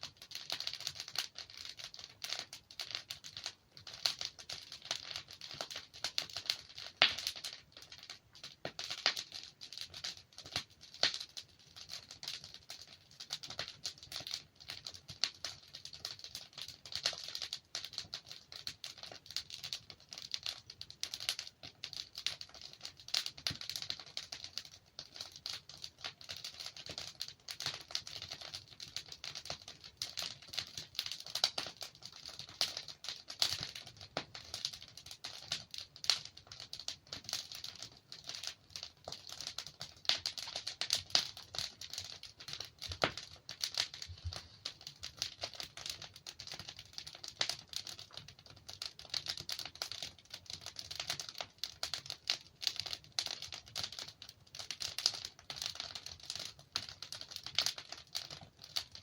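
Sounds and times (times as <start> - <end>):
logs crackling in fireplace: 0.0 - 59.0.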